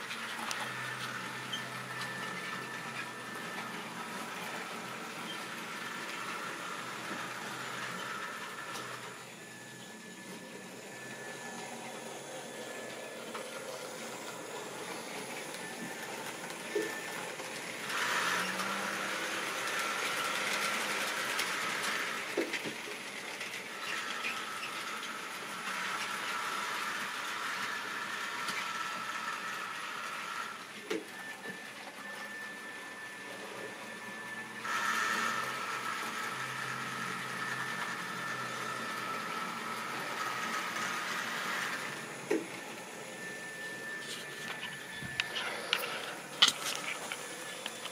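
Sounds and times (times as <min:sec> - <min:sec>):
locomotive motor whining: 0:00.0 - 0:47.9
wheels rolling on track: 0:00.0 - 0:47.9.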